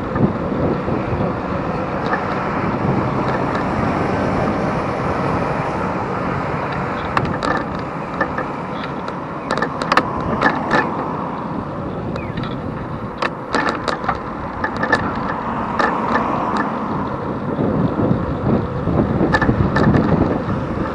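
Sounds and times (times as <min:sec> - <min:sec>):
bicycle clicks and rattles: 0:00.0 - 0:20.9
road noise: 0:00.0 - 0:20.9
wind rush: 0:00.0 - 0:20.9.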